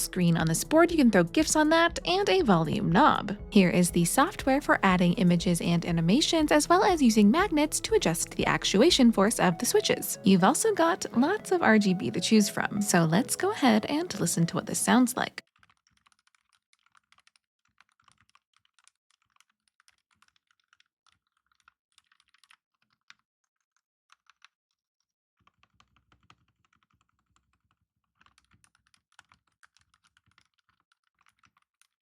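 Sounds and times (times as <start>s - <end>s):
faint keyboard typing: 4.0s - 24.6s, 25.4s - 32.0s.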